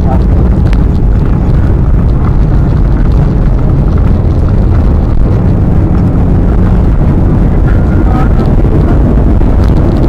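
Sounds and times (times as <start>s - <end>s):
jet engines roaring in reverse thrust: 0.0s - 10.0s.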